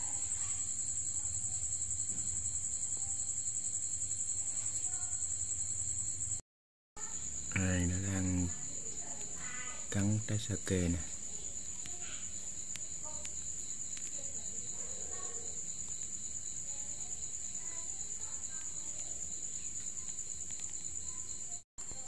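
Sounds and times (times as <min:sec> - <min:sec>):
crickets trilling: 0:00.0 - 0:06.4, 0:07.0 - 0:22.0.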